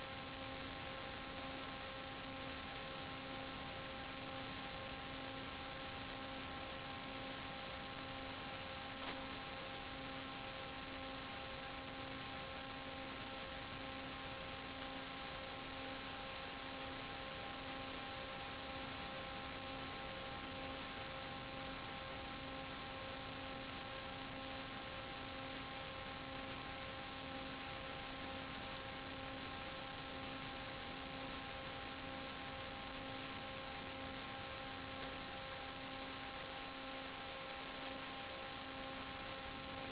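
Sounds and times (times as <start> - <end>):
electronic buzzing hum: 0.0 - 39.9.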